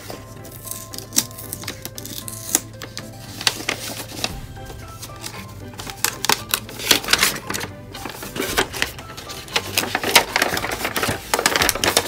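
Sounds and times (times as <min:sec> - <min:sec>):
background music: 0:00.0 - 0:12.0
wrapping paper rustling: 0:00.0 - 0:12.0.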